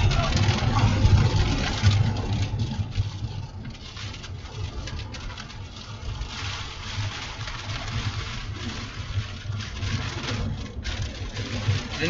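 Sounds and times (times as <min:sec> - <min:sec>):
rain and wind on vehicle: 0:00.0 - 0:12.0
vehicle driving rumble: 0:00.0 - 0:12.0.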